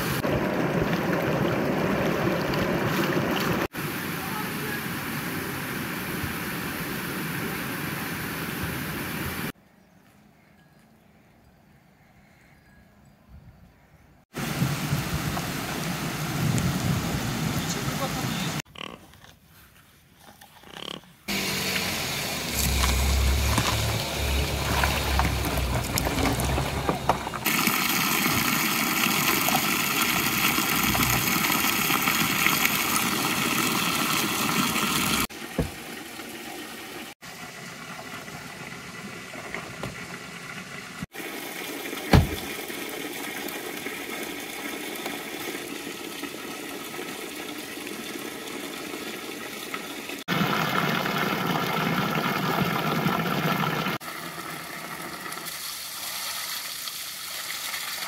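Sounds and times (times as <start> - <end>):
water falling and splashing: 0.0 - 7.5, 14.4 - 18.6, 21.3 - 58.0.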